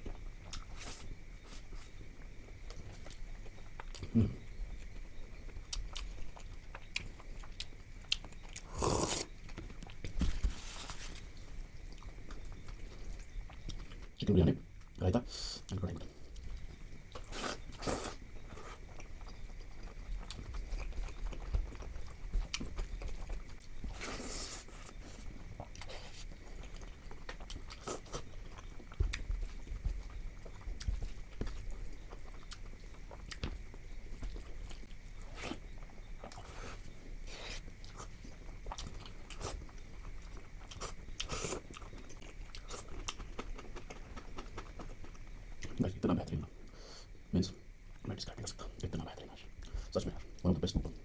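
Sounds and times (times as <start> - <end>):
chewing food: 0.0 - 15.1, 15.7 - 46.4.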